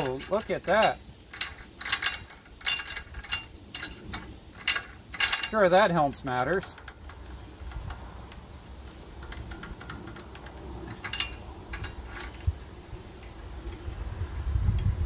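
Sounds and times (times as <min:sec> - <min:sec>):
light metal clicks and taps: 0:00.0 - 0:13.9.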